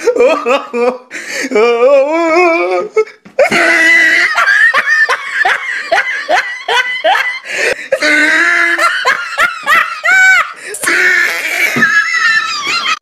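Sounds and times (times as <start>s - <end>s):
person laughing hard: 0.0s - 1.1s, 2.6s - 13.0s.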